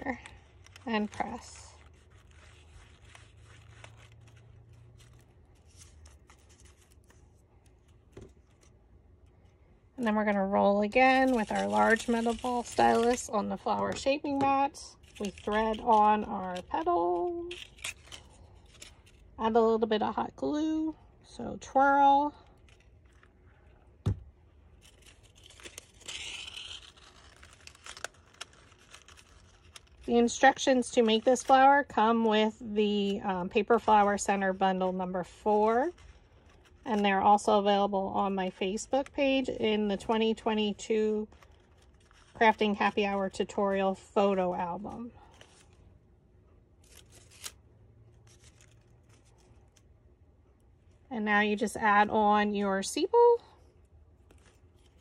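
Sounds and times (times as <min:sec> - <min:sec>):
paper petals rustling: 0:00.0 - 0:19.3, 0:21.8 - 0:45.9, 0:46.8 - 0:50.0
low steady hum: 0:00.0 - 0:55.0.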